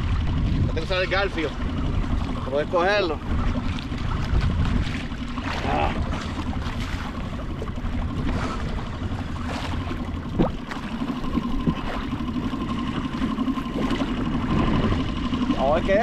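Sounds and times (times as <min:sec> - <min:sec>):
choppy sea water: 0:00.0 - 0:16.0
wind over microphone: 0:00.0 - 0:16.0.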